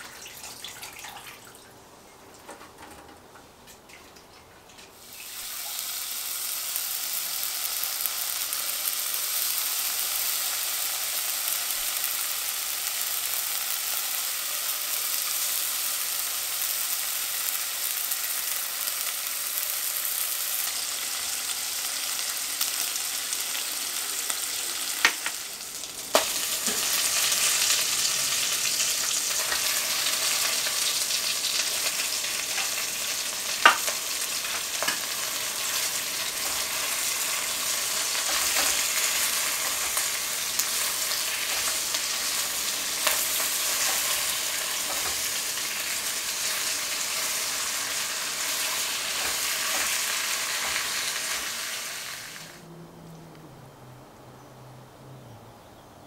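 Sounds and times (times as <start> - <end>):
bacon sizzling: 5.0 - 52.6.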